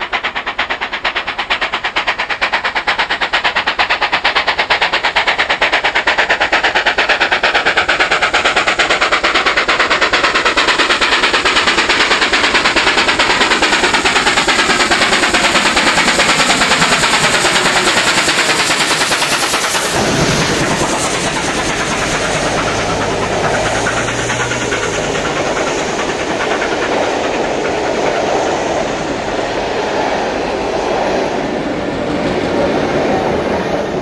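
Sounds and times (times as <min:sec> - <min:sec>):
carriages rumbling on rails: 0:00.0 - 0:34.0
steam locomotive exhaust beating: 0:00.0 - 0:34.0.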